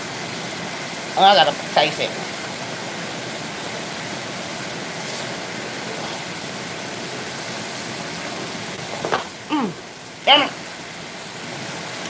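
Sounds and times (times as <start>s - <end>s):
fan whooshing: 0.0s - 12.0s.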